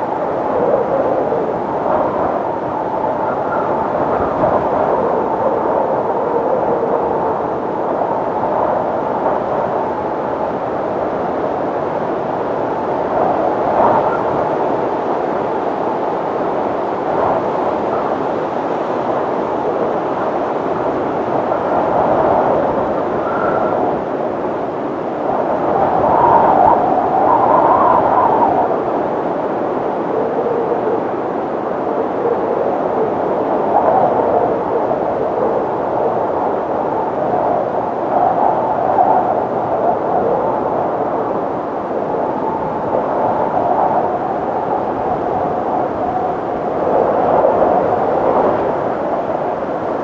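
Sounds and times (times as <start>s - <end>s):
faint wind whistling: 0.0s - 50.0s
wind blowing: 0.0s - 50.0s.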